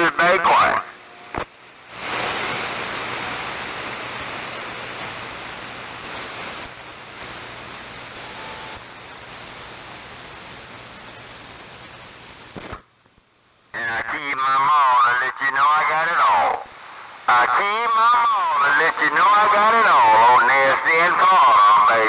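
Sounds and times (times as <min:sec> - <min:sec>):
radio static hiss: 0:00.0 - 0:12.9, 0:13.7 - 0:22.0.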